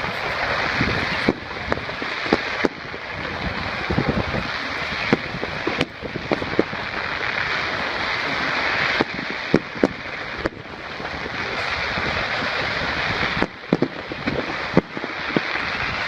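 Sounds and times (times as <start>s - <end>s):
fireworks bangs and pops: 0.0s - 16.0s
steady rushing noise: 0.0s - 16.0s.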